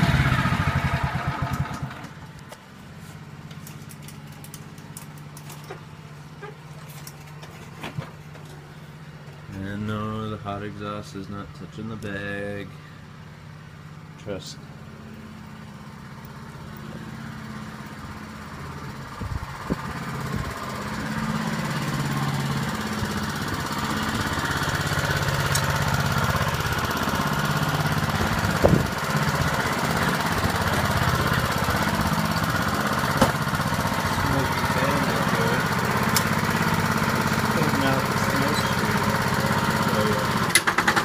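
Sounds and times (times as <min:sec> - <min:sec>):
lawn mower engine running: 0:00.0 - 0:09.5, 0:11.9 - 0:41.0.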